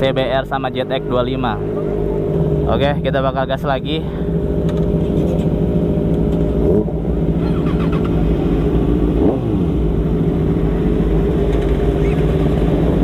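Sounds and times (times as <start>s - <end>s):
motorcycle engine idling and revving: 0.0s - 13.0s
other motorcycle engines: 0.0s - 13.0s.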